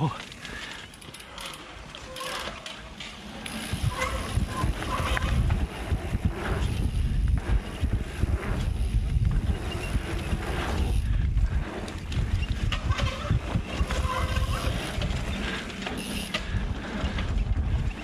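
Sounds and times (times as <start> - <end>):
tyres rolling on dirt: 0.0 - 18.0
bike knocks and rattles: 2.1 - 18.0
wind buffeting microphone: 3.5 - 18.0.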